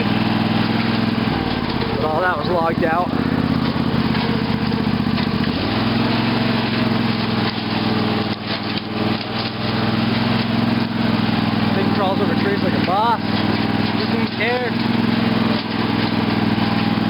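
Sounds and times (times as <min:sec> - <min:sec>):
lawn tractor engine under load: 0:00.0 - 0:17.0
tractor knocking over fallen trees: 0:00.0 - 0:17.0.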